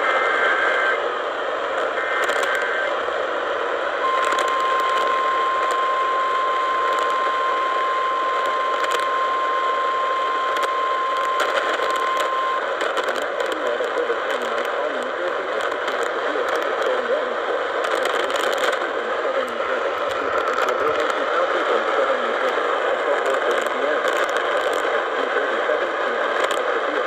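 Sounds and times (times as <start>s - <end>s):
radio static and crackle: 0.0s - 27.0s.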